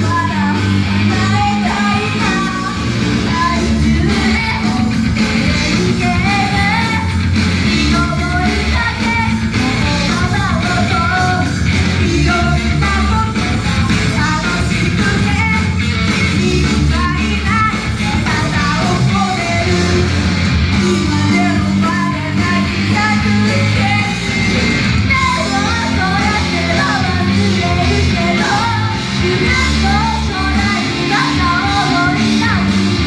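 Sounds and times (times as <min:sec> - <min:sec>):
electric guitar: 0:00.0 - 0:33.0
person singing: 0:00.0 - 0:33.0
rock band playing: 0:00.0 - 0:33.0.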